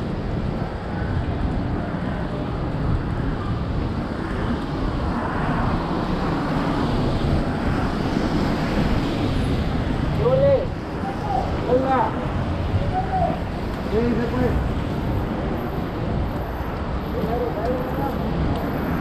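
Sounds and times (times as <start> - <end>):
tyres rushing on wet road: 0.0 - 19.0
wind rumble on microphone: 0.0 - 19.0.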